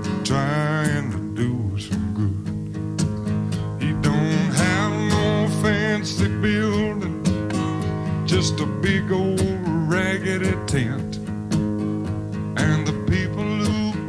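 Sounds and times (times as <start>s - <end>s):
strummed guitar: 0.0s - 14.0s
bass line: 1.3s - 14.0s
sliding lead melody: 2.5s - 14.0s.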